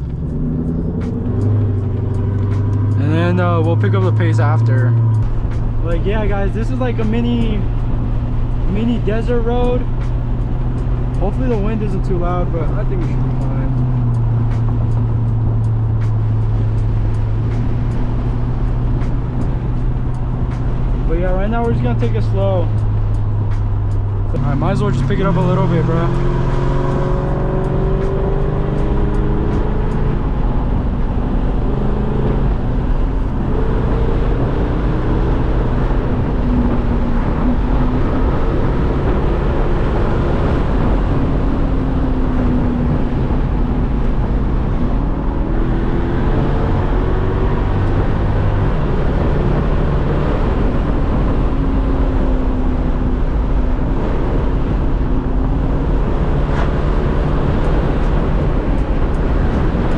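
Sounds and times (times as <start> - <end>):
loud car engine revving: 0.0 - 59.9
wind and road noise: 0.0 - 59.9.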